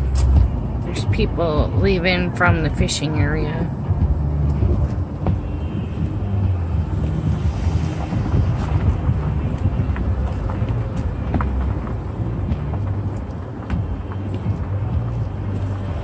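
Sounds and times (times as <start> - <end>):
car rumbling slowly: 0.0 - 16.0
wind buffeting microphone: 0.0 - 16.0.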